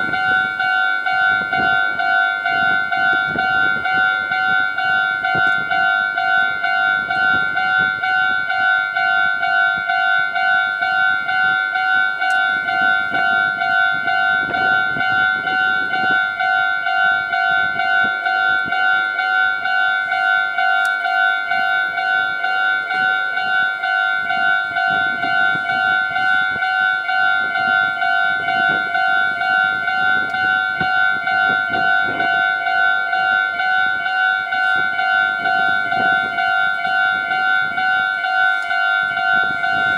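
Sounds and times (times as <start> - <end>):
level crossing warning bell: 0.0 - 39.9
train rumbling past: 0.0 - 39.9.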